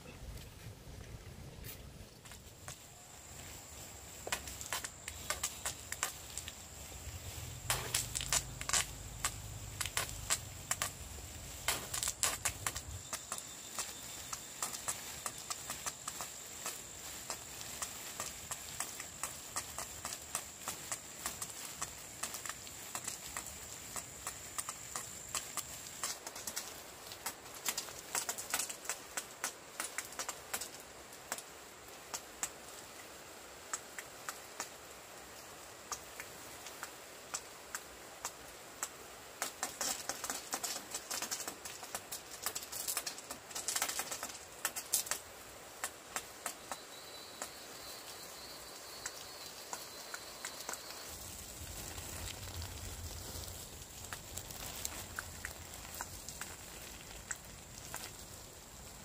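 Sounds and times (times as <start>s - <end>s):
hose water spraying on plants: 0.0s - 59.0s.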